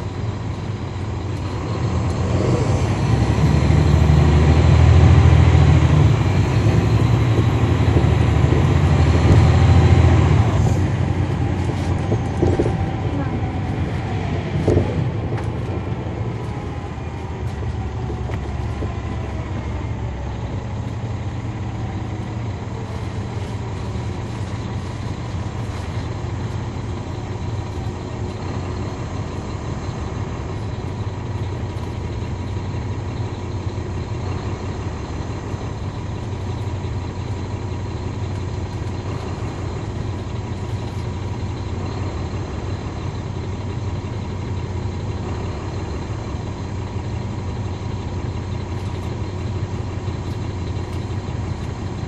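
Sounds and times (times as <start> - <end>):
bus diesel engine humming: 0.0 - 52.0.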